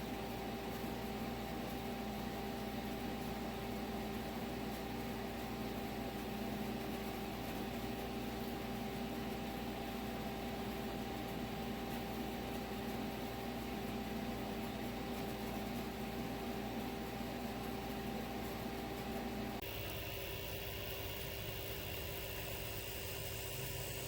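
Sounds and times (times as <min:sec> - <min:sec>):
machine whirring with whine: 0:00.0 - 0:24.0.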